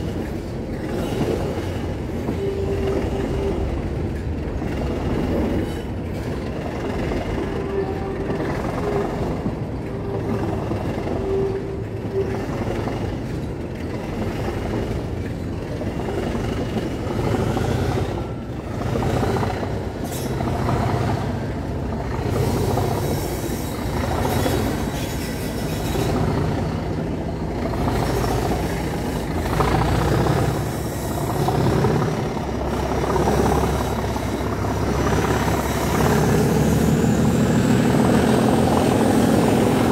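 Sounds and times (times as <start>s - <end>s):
diesel locomotive engine under power: 0.0s - 39.9s
wheels on rails: 0.0s - 39.9s.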